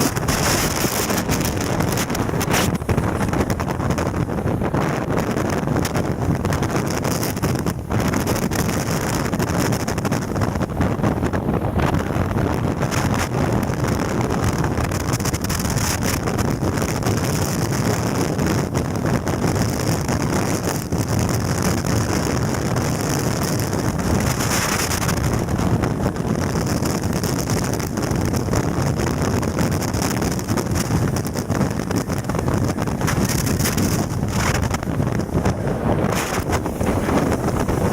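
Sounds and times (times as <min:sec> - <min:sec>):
strong wind buffeting microphone: 0:00.0 - 0:37.9.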